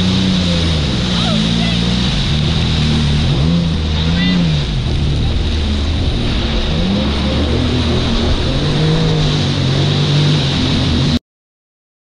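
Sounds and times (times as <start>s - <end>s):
jet ski engine: 0.0s - 11.2s
water spray rushing: 0.0s - 11.2s
wind noise: 0.0s - 11.2s.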